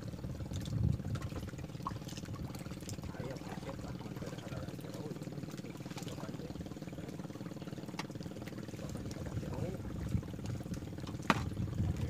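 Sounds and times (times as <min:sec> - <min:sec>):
low motor hum: 0:00.0 - 0:12.0
water lapping against platform: 0:00.0 - 0:12.0.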